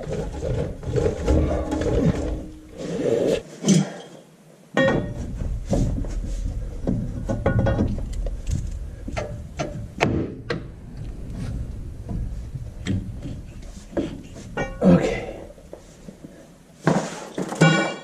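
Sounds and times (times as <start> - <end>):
metal knocks and scraping: 0.0 - 4.0, 4.8 - 18.0.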